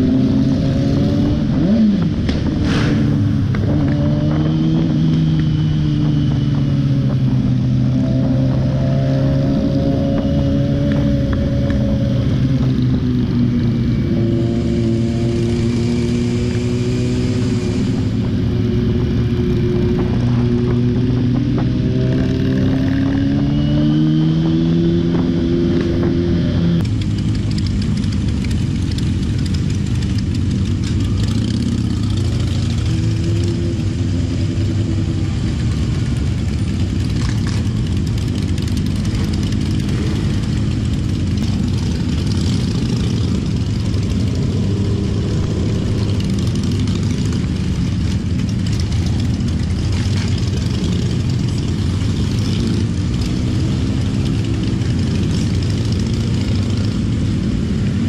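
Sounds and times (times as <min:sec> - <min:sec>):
motorcycle engines running: 0:00.0 - 0:58.0.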